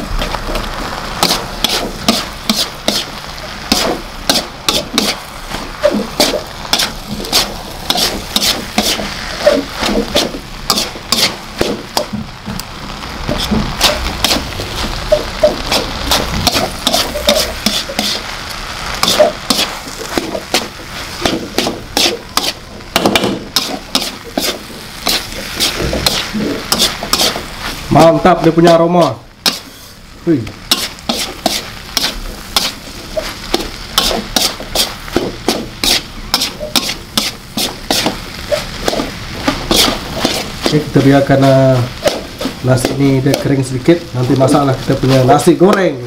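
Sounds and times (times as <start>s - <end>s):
metal spatula scraping wok: 0.0s - 12.3s, 13.0s - 28.4s, 29.4s - 30.0s, 30.7s - 45.6s
rice sizzling: 0.0s - 46.0s.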